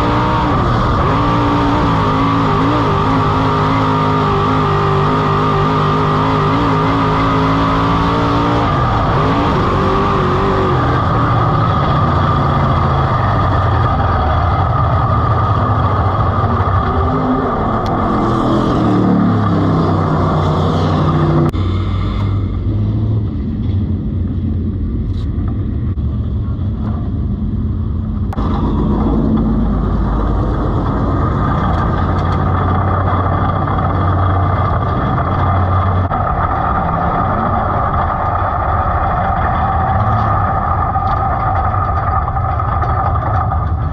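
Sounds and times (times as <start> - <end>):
race car engine revving: 0.0 - 23.4, 28.2 - 43.9.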